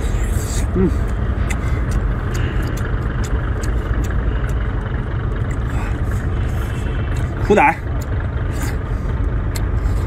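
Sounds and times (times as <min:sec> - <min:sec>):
chewing and mouth noises: 0:00.0 - 0:10.0.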